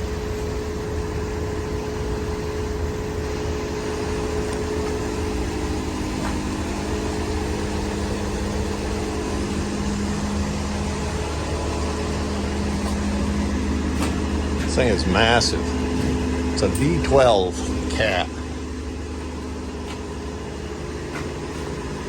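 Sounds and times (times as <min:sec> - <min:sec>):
heavy machinery drone: 0:00.0 - 0:22.0.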